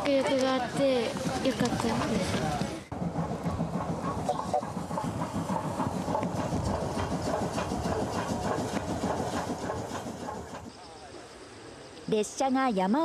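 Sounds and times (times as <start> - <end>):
steam locomotive running past: 0.0 - 10.8
wheels clattering over rail joints: 0.2 - 10.7.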